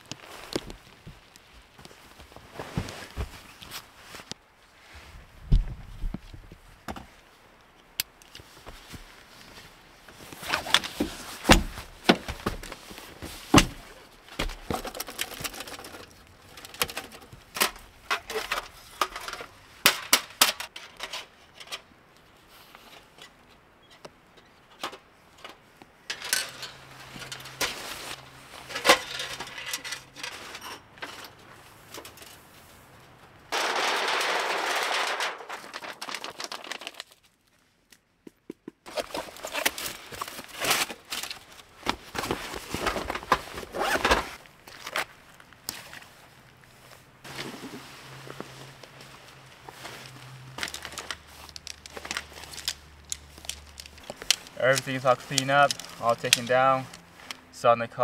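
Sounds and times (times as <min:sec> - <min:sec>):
rustling: 0:00.0 - 0:07.6, 0:08.2 - 0:38.0, 0:38.7 - 0:57.6.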